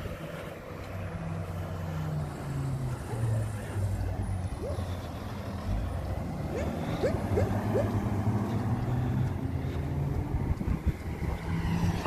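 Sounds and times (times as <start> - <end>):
fire engine running: 0.0 - 12.0
road traffic: 0.0 - 12.0.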